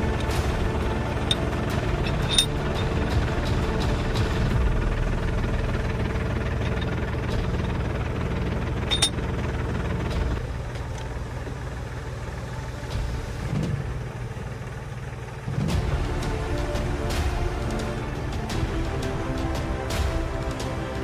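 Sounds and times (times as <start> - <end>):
construction machine engine rumbling: 0.0 - 21.0.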